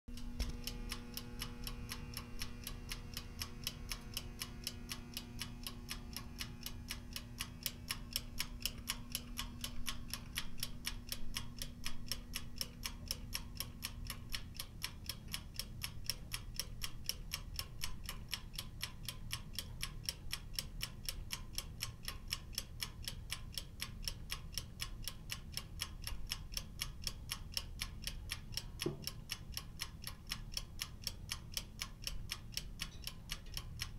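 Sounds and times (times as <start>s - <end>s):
oven timer ticking: 0.1s - 33.9s.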